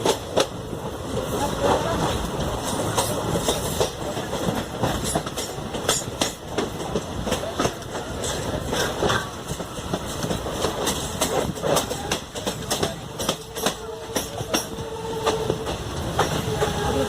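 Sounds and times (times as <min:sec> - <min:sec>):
train wheels on rail joints: 0:00.0 - 0:17.0.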